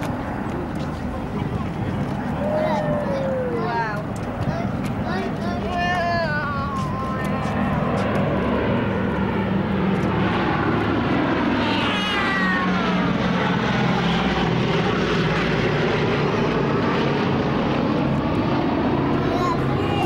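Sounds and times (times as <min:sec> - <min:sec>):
piston aircraft engines droning: 0:00.0 - 0:20.0.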